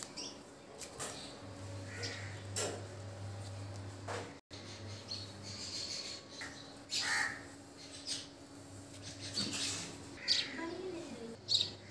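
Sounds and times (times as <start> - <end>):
birds calling: 0.0 - 3.0, 4.1 - 11.9.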